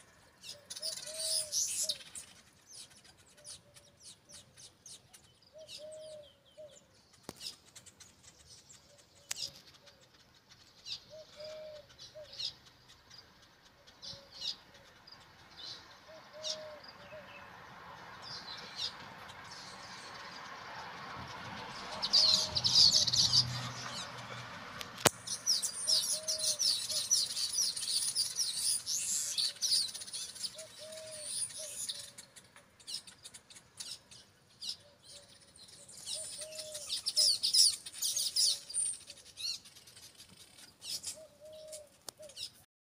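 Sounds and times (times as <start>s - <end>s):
birds chattering: 0.0s - 42.6s.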